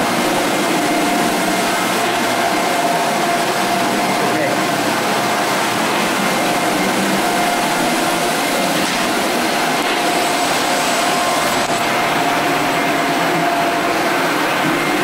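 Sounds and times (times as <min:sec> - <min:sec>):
floor sanding machine droning: 0:00.0 - 0:15.0.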